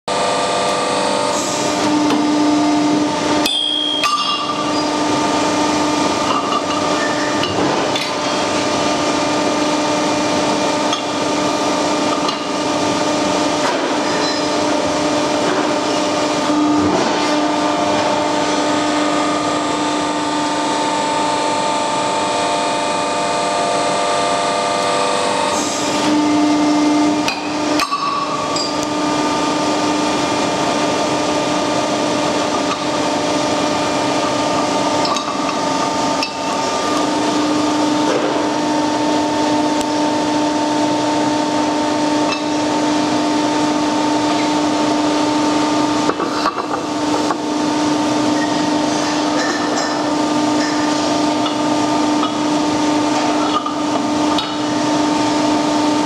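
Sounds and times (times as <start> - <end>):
factory press machinery humming: 0.1 - 56.0.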